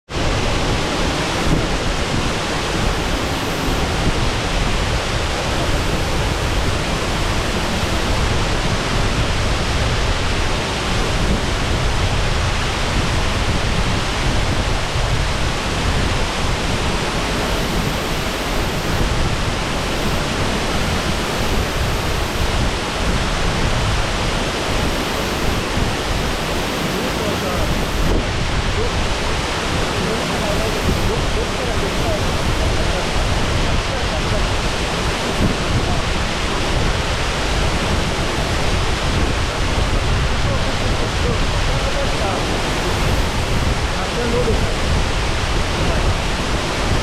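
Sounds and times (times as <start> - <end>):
waterfall rushing: 0.1 - 47.0.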